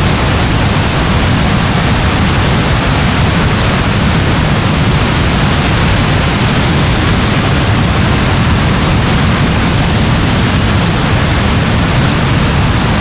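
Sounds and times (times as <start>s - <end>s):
deep rumble: 0.0s - 13.0s
heavy rain hissing: 0.0s - 13.0s.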